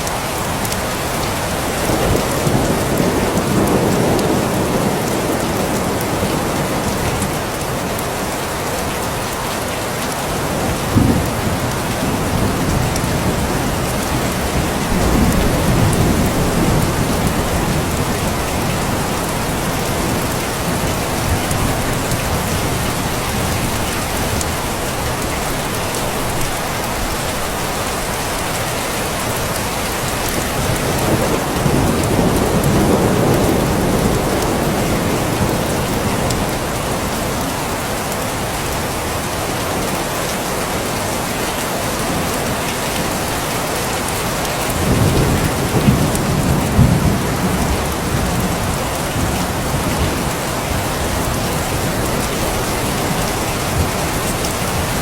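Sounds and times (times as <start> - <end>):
heavy rainfall: 0.0 - 55.0
thunder rumbling: 1.1 - 8.0, 10.4 - 38.6, 44.7 - 55.0.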